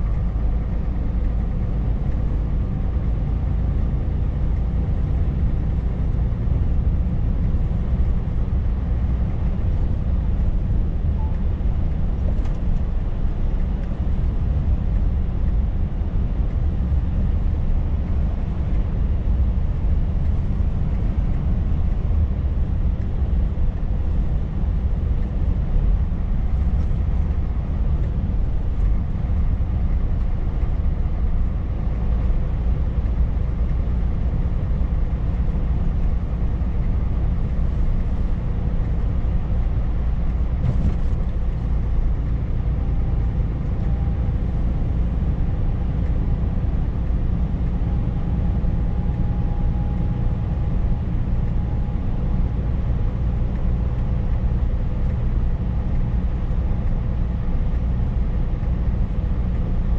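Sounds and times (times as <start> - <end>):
diesel truck engine drone: 0.0 - 59.9
road and tyre rumble: 0.0 - 59.9.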